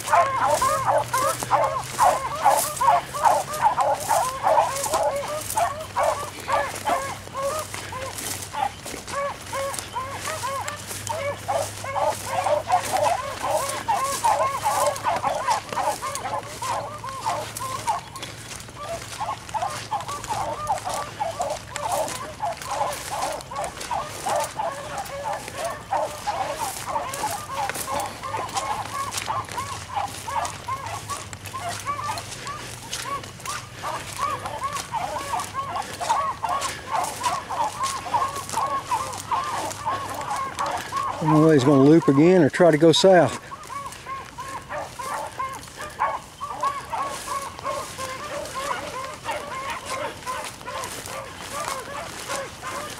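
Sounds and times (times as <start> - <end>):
footsteps rustling through dry grass: 0.0 - 52.9
pack of beagles baying: 0.0 - 52.9.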